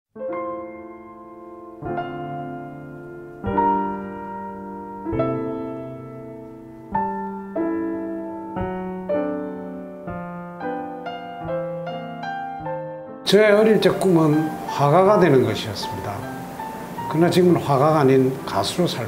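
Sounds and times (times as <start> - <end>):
slow piano chords: 0.2 - 19.0.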